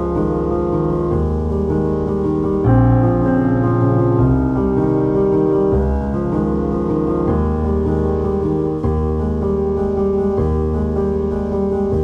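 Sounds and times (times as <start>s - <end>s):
piano playing sustained chords: 0.0s - 12.0s.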